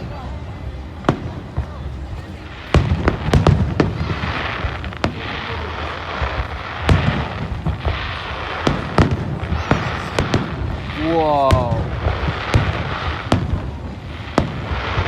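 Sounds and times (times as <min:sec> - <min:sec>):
fireworks crackling hiss: 0:00.0 - 0:15.0.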